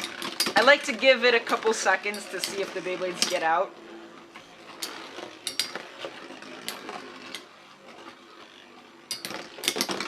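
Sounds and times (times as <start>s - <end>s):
spinning tops whirring: 0.0s - 10.0s.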